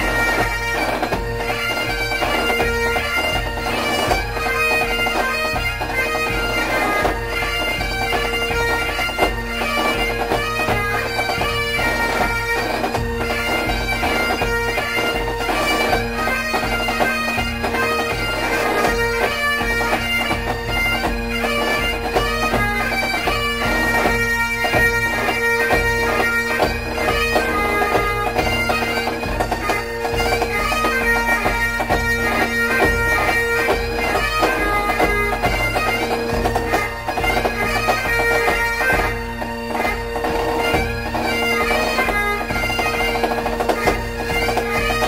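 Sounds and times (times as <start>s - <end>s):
bagpipes playing: 0.0s - 45.0s
drum beats: 0.0s - 45.0s.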